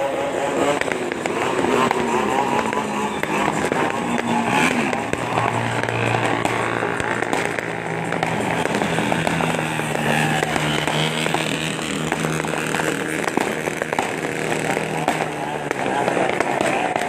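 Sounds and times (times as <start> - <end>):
fireworks popping and cracking: 0.0 - 17.0
low drone: 0.0 - 17.0.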